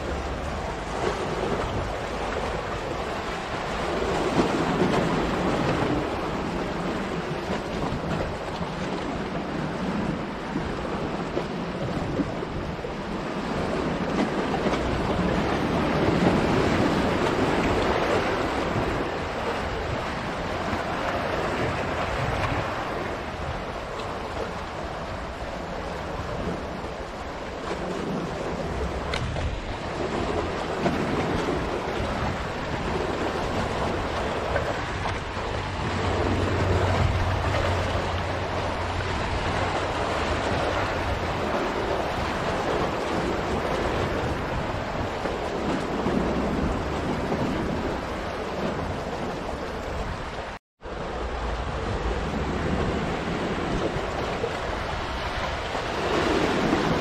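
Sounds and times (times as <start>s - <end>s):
waves breaking on rocks: 0.0s - 57.0s.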